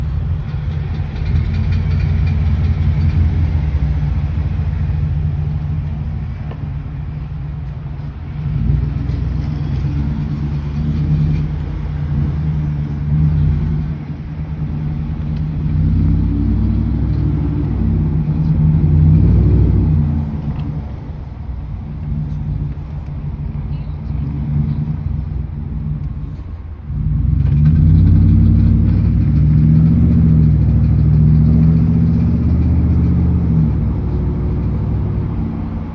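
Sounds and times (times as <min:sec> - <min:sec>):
engine revving: 0:00.4 - 0:35.9
rattling noise: 0:00.4 - 0:35.9.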